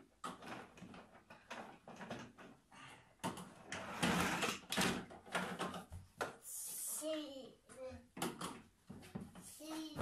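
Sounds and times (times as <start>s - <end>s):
plastic parts knocking and scraping: 0.0s - 6.4s, 8.1s - 10.0s.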